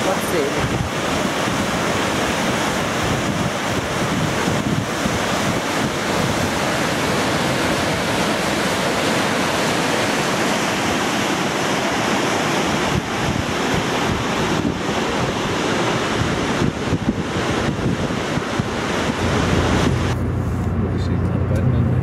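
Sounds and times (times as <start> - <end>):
waterfall rushing: 0.0 - 20.7
wind buffeting microphone: 0.0 - 22.0.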